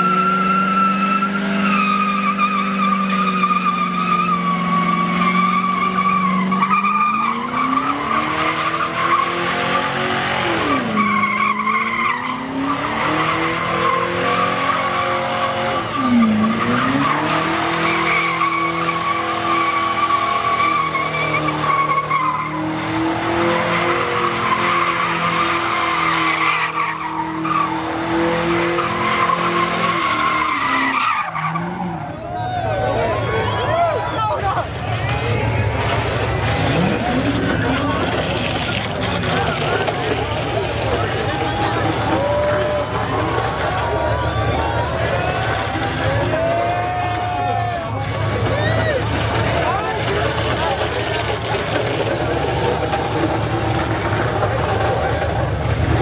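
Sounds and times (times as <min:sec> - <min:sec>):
car engine at high revs: 0:00.0 - 0:32.2, 0:34.6 - 0:56.0
tyres squealing: 0:00.0 - 0:56.0.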